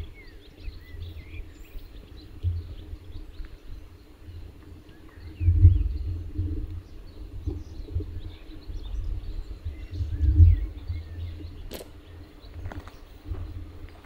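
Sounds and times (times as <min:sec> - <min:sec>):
low rumble on microphone: 0:00.0 - 0:14.0
small birds chirping: 0:00.0 - 0:14.0.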